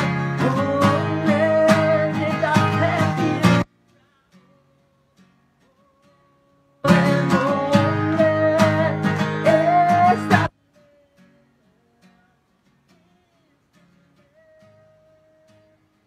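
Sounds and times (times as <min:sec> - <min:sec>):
man singing: 0:00.0 - 0:15.9
acoustic guitar strumming: 0:00.0 - 0:16.0.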